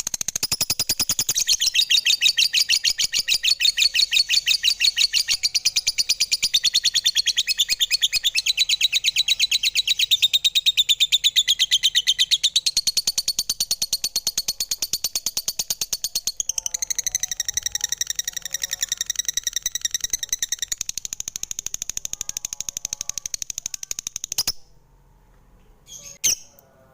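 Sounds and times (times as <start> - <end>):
lovebird chirping: 0.0 - 24.8, 25.8 - 26.7.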